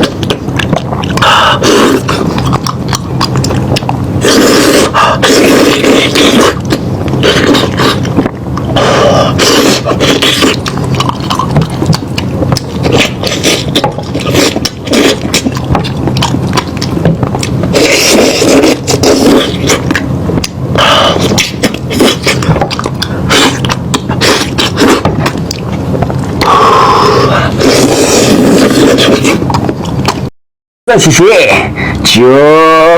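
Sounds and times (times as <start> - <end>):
person chewing food: 0.0 - 30.3.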